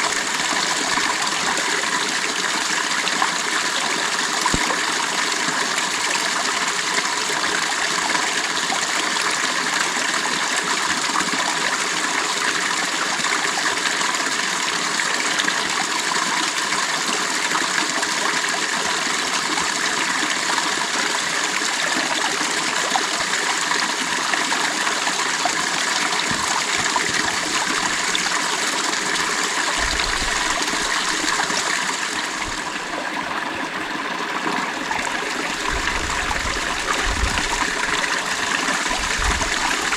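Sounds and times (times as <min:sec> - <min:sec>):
creek water flowing over stones: 0:00.0 - 0:39.9.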